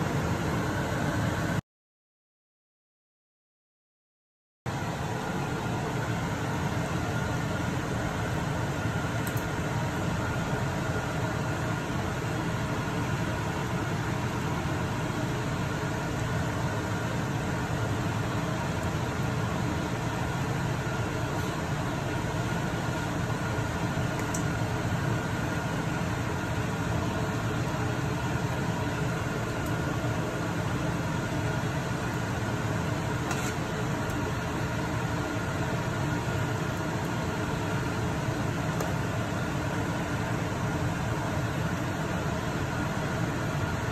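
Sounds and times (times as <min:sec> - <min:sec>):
steady machine hum: 0:00.0 - 0:01.6, 0:04.7 - 0:43.9.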